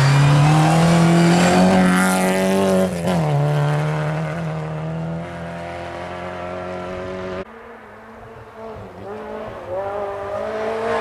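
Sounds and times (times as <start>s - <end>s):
car engine at full throttle passing: 0.0s - 11.0s.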